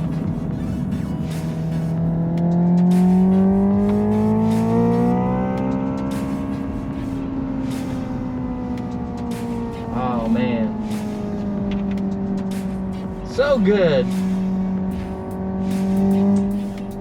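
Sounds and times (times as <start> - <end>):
synthetic engine drone through speakers: 0.0 - 17.0.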